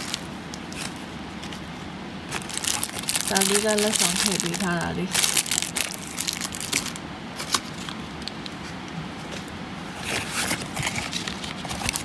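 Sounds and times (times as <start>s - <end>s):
packaging rustling and scraping: 0.0s - 1.7s, 2.3s - 12.0s.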